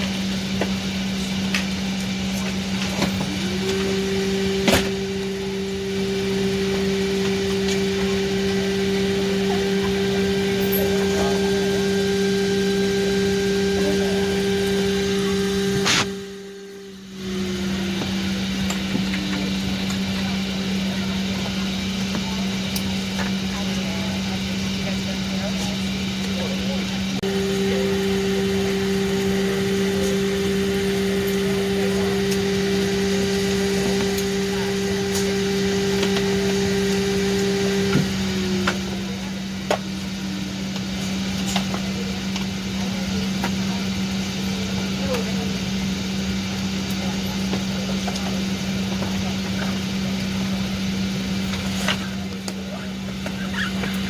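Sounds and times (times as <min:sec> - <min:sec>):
cabin air-conditioning rush: 0:00.0 - 0:54.0
fan spinning down: 0:00.0 - 0:54.0
steady low hum: 0:00.0 - 0:54.0.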